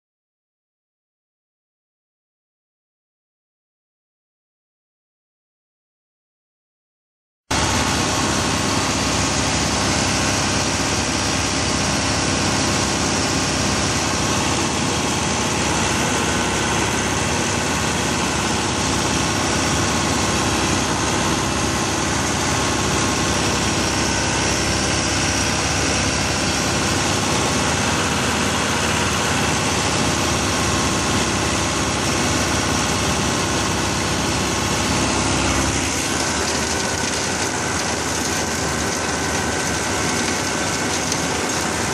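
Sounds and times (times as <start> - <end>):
tractor machinery running: 7.5 - 41.9.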